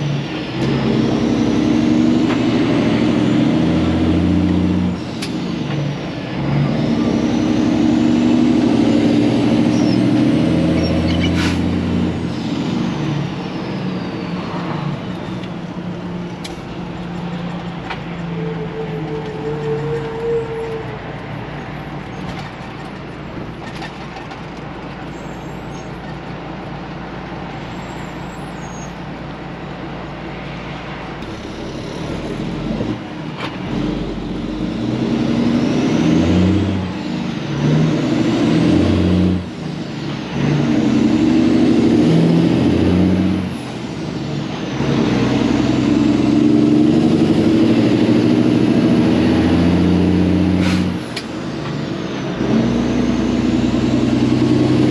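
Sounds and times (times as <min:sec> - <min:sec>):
truck diesel engine accelerating: 0:00.0 - 0:54.9.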